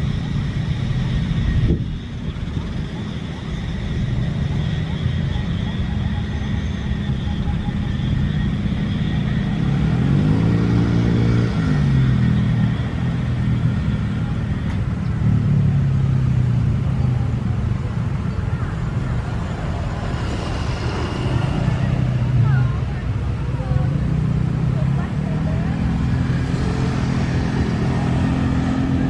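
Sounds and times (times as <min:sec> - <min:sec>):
low engine rumble: 0:00.0 - 0:29.0
vehicle passing: 0:02.4 - 0:14.4, 0:15.6 - 0:29.0.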